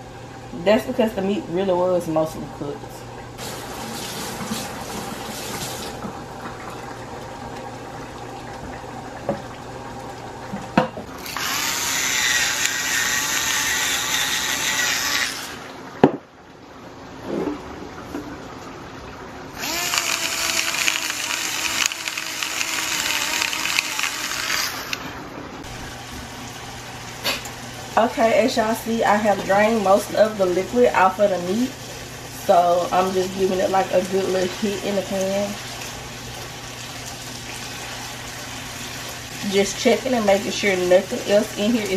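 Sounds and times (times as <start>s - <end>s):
water running into a sink: 3.4s - 15.8s, 19.5s - 41.9s.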